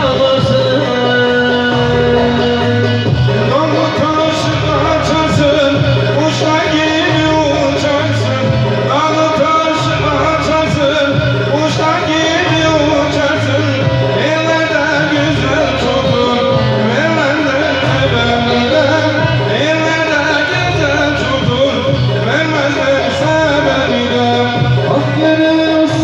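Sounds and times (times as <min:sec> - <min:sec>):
keyboard accompaniment: 0:00.0 - 0:26.0
low bass beat: 0:00.0 - 0:26.0
man singing into a microphone: 0:00.0 - 0:26.0
string instrument: 0:00.0 - 0:26.0.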